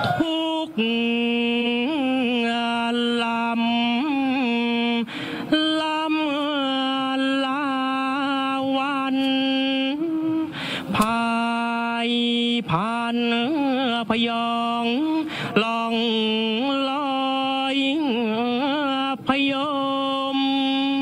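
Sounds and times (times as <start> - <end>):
person chanting unaccompanied: 0.0 - 21.0.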